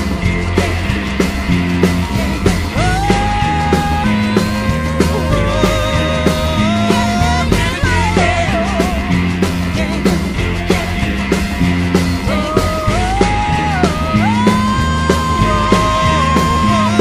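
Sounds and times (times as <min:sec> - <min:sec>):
roots rock band playing: 0:00.0 - 0:17.0
sliding lead melody: 0:00.0 - 0:17.0.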